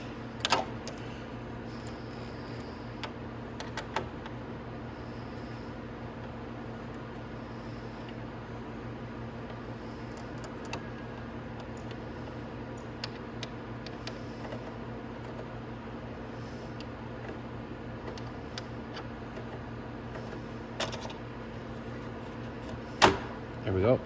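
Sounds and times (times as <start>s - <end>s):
low workshop hum: 0.0s - 24.0s.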